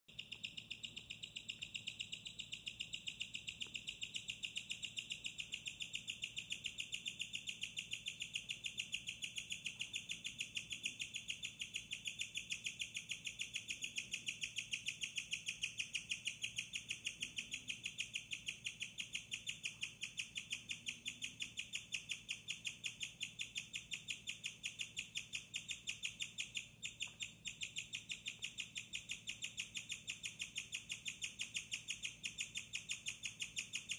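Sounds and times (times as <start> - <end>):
guinea pig chirping: 0.1 - 33.9.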